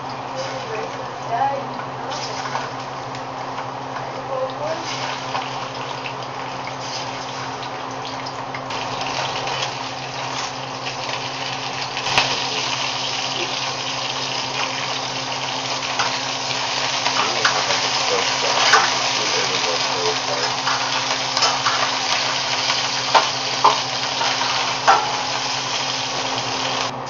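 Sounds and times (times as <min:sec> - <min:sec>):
low steady hum: 0:00.0 - 0:27.0
sausages sizzling in pan: 0:00.0 - 0:27.0.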